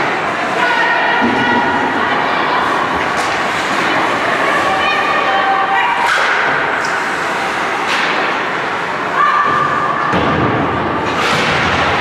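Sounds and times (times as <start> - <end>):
arena noise: 0.0 - 12.0.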